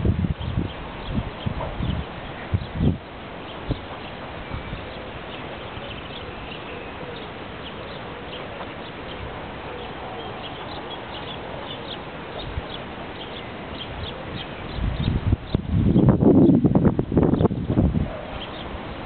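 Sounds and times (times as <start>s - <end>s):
wind buffeting microphone: 0.0s - 6.3s, 9.1s - 19.0s
outdoor hiss: 0.0s - 19.0s.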